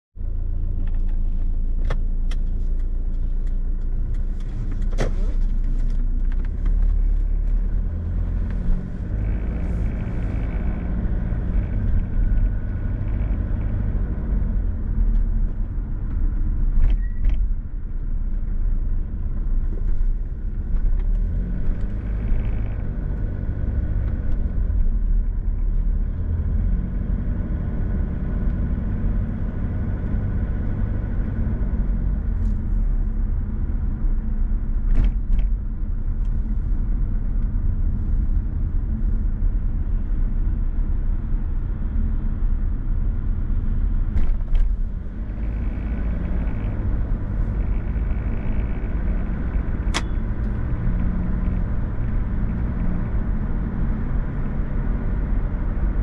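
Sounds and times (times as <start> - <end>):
road and engine rumble: 0.2 - 56.0.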